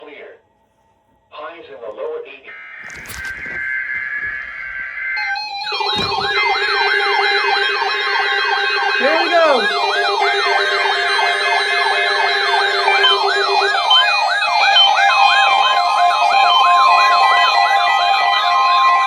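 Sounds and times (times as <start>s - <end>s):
sweeping siren-like alarm tones: 2.5s - 19.0s.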